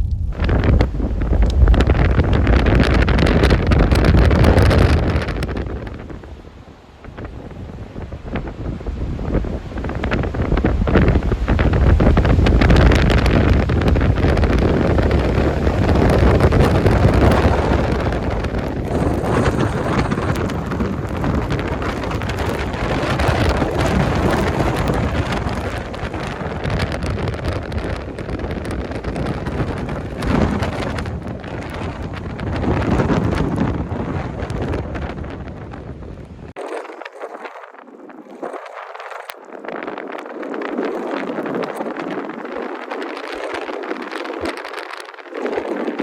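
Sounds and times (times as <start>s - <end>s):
blizzard wind buffeting microphone: 0.0s - 46.0s.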